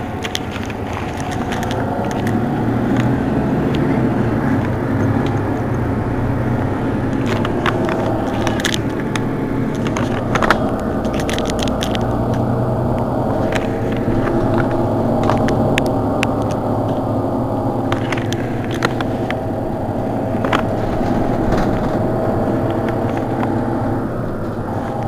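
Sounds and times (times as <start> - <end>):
bus diesel engine idling: 0.0 - 25.0.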